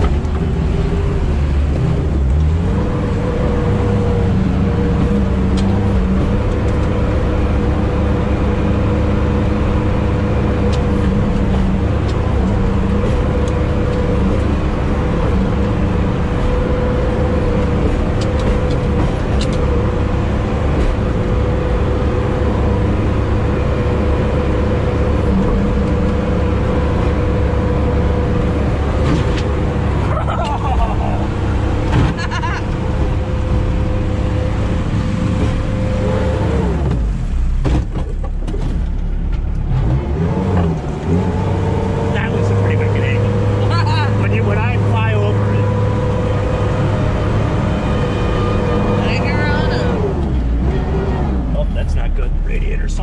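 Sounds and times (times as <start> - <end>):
diesel engine droning under load: 0.0 - 53.0
drivetrain whine: 0.0 - 53.0.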